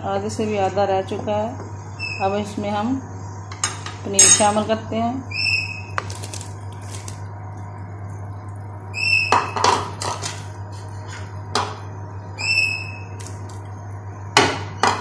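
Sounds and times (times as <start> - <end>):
steady low hum: 0.0 - 9.1, 9.9 - 15.0.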